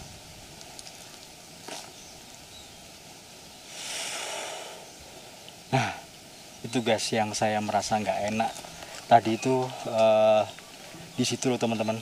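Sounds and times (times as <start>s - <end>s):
soft rustling hiss: 0.0s - 12.0s.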